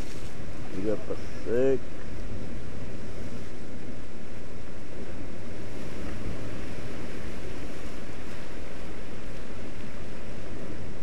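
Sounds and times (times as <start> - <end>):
sea surf breaking on rocks: 0.0 - 11.0
wind on microphone: 0.0 - 11.0.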